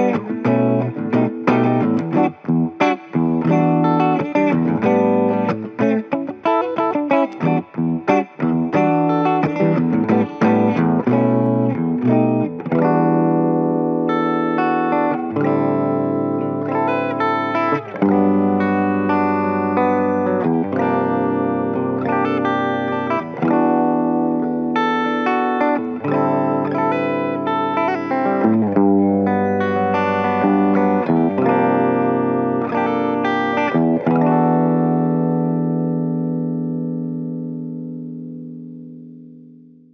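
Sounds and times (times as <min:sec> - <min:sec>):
electric guitar played with pick: 0:00.0 - 0:39.9.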